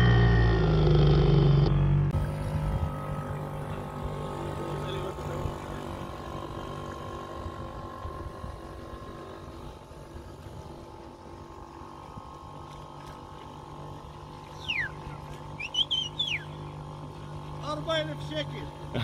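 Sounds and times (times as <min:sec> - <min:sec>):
small outboard motor running: 0:00.0 - 0:19.0.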